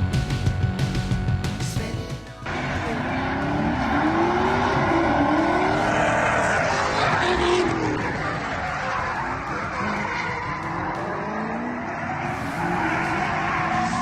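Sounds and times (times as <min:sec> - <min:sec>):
car engine revving: 0:02.4 - 0:14.0
tyres skidding: 0:02.4 - 0:14.0.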